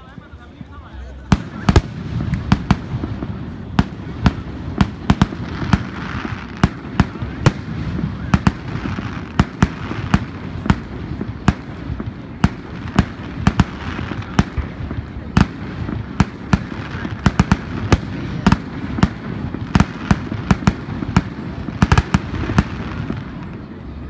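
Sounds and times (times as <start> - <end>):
fireworks bursting: 0.0 - 24.0
steady background noise: 0.0 - 24.0.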